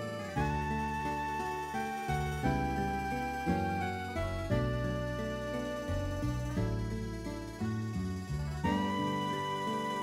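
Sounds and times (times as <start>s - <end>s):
slow instrumental tune: 0.0s - 10.0s.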